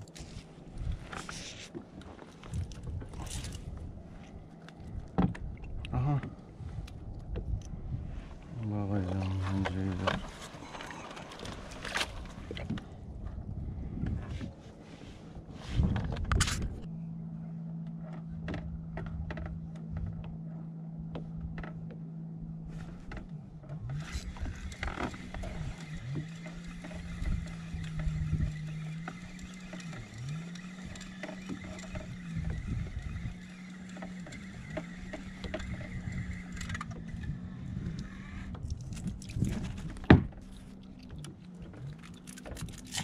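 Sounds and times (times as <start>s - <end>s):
low motor hum: 0.0s - 43.0s.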